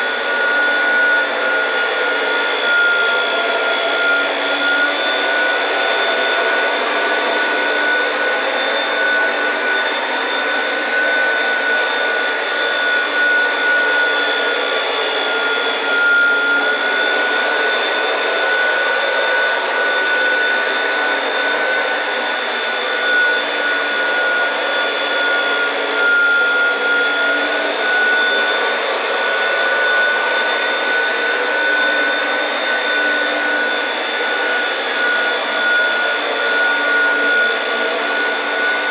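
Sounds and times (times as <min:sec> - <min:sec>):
vacuum cleaner whining on carpet: 0:00.0 - 0:38.9.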